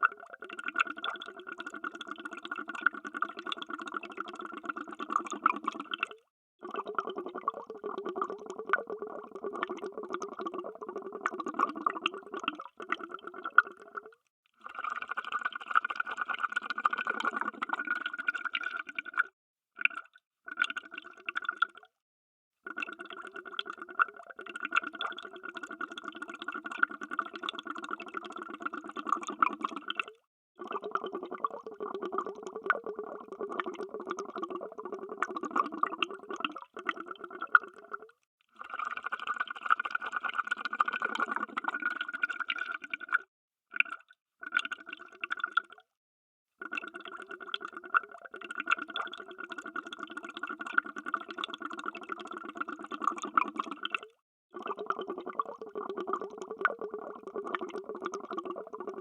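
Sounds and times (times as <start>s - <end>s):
underwater bubbling: 0.0s - 14.2s, 14.8s - 21.8s, 22.7s - 45.8s, 46.7s - 59.0s.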